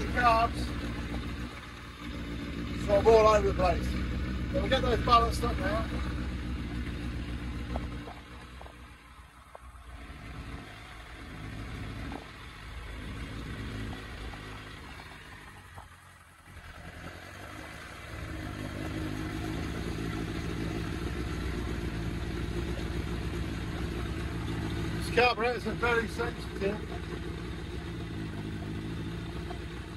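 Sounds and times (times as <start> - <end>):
motorcycle engine running unevenly: 0.0 - 29.9.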